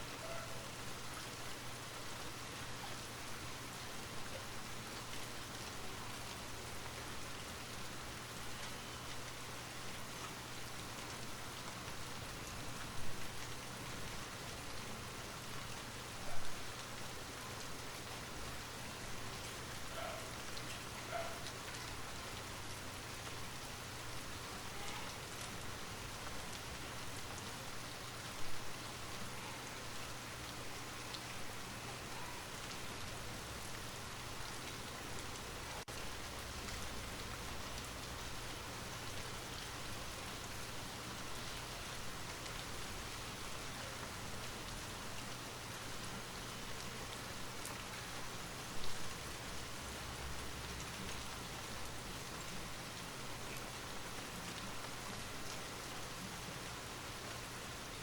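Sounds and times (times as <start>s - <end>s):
light rain hiss: 0.0s - 58.0s.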